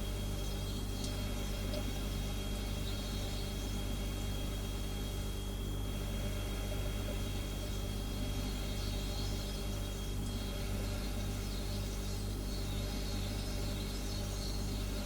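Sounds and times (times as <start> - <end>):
refrigerator humming: 0.0 - 15.0.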